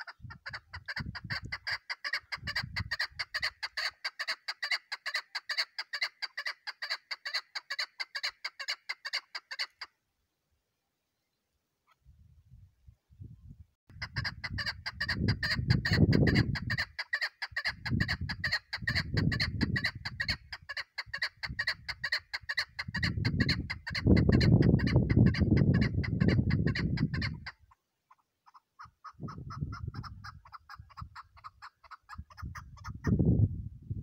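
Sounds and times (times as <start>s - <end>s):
partridge clucking call: 0.0s - 9.9s, 13.9s - 33.2s.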